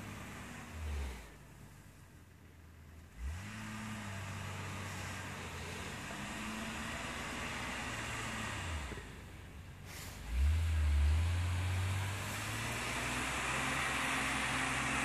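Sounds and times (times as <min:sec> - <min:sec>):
car engine revving: 0:00.0 - 0:01.5, 0:03.0 - 0:15.0
tyres churning snow: 0:00.0 - 0:02.0, 0:03.1 - 0:15.0.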